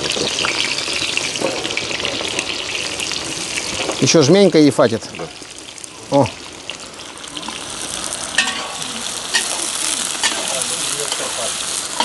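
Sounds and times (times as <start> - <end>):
oil crackling: 0.0 - 12.0
onions sizzling in hot oil: 0.0 - 12.0.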